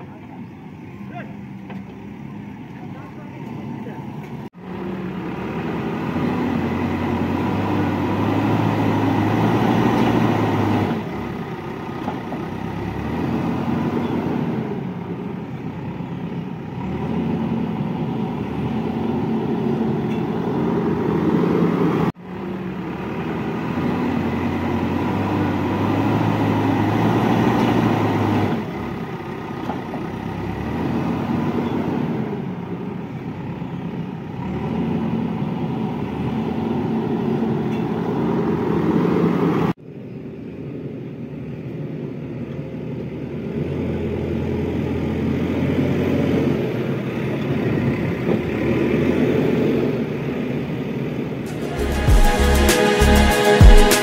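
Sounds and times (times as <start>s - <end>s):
diesel engine revving: 0.0s - 39.8s, 43.0s - 54.0s.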